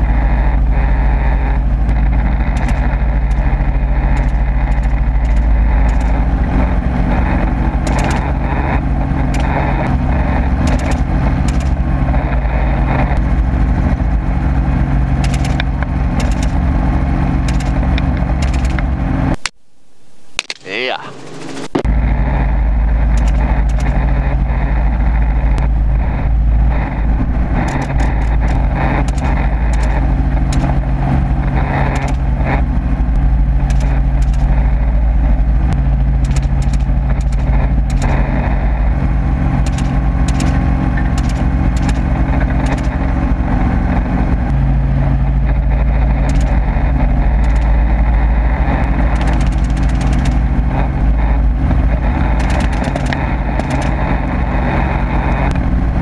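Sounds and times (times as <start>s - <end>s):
helicopter rotor and engine drone: 0.0s - 19.5s, 20.4s - 56.0s.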